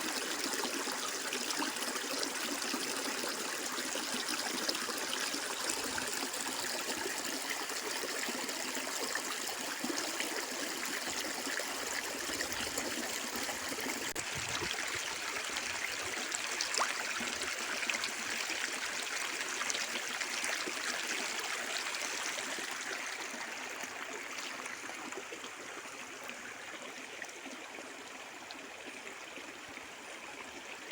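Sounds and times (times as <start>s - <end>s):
stream water running: 0.0s - 30.9s.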